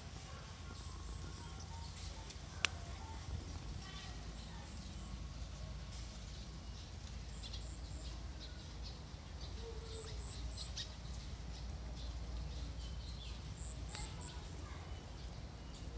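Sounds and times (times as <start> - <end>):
small birds chirping: 0.1 - 15.9.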